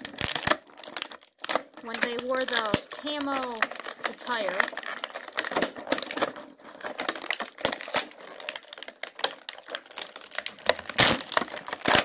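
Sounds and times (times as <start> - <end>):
plastic crinkling and crackling: 0.0 - 12.0
scissors snipping plastic: 0.0 - 12.0.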